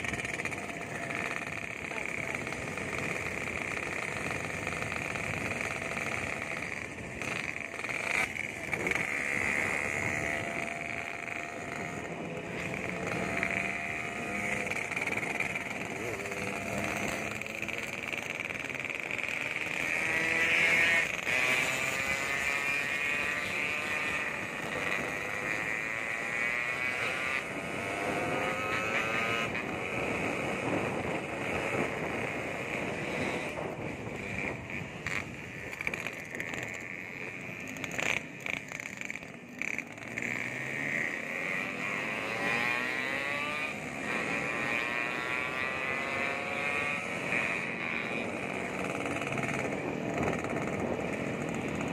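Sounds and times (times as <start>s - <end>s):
two-stroke motorcycle engine revving: 0.0s - 51.9s.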